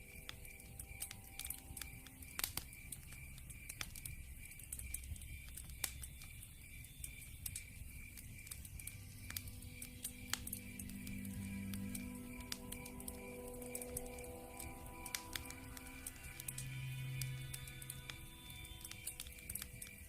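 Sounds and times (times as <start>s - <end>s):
crickets chirping: 0.0s - 20.0s
wood fire crackling: 0.0s - 20.0s.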